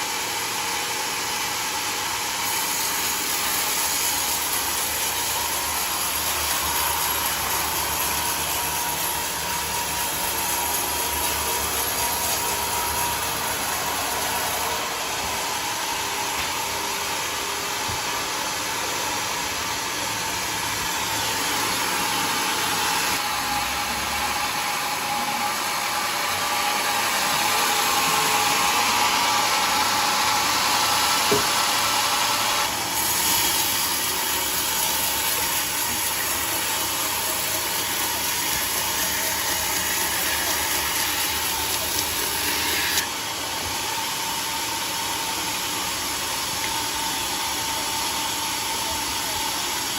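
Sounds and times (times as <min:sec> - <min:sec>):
sawmill motor: 0:00.0 - 0:49.9.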